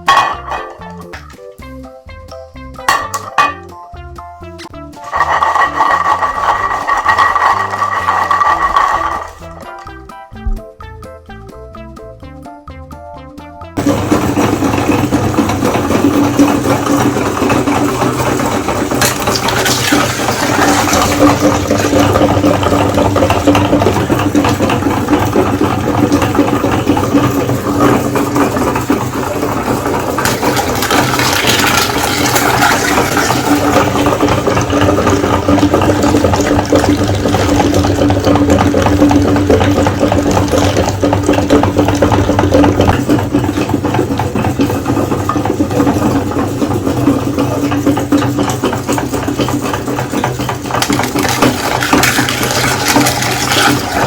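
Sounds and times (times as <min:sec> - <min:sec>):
clicks and crackles of grinding: 0:00.0 - 0:01.4, 0:04.9 - 0:10.0, 0:13.8 - 0:54.0
meat grinder motor humming: 0:04.8 - 0:10.2, 0:13.8 - 0:54.0.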